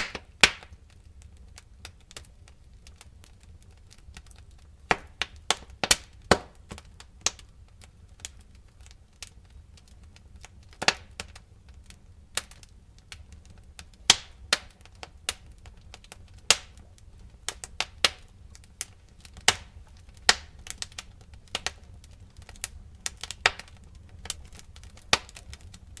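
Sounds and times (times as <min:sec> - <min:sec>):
low rumble of burning: 0:00.0 - 0:26.0
wood fire crackling: 0:00.0 - 0:26.0.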